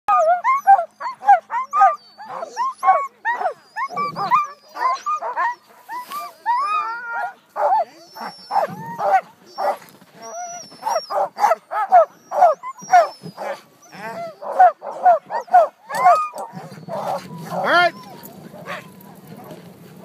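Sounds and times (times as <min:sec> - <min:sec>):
dogs whining: 0:00.1 - 0:19.6
sled dogs barking: 0:00.1 - 0:20.0.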